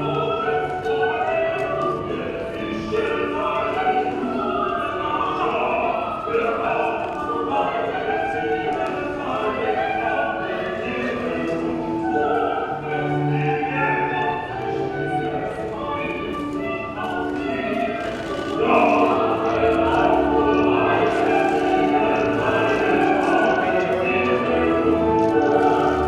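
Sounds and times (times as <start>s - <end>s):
operatic singing: 0.0s - 26.0s.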